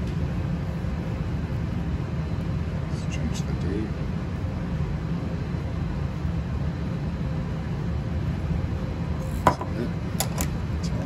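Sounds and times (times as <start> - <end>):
faint constant hum: 0.0 - 11.0
low background rumble: 0.0 - 11.0.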